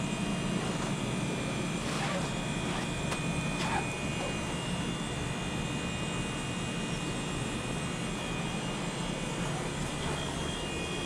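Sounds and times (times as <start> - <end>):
heat pump compressor droning: 0.0 - 11.0.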